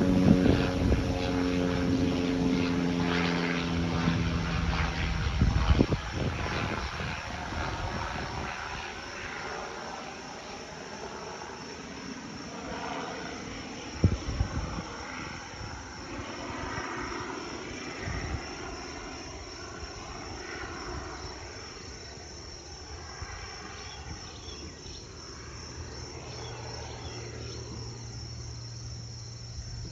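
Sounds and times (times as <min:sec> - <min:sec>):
crickets chirping: 0:00.0 - 0:29.9
turboprop plane passing over: 0:00.0 - 0:29.9.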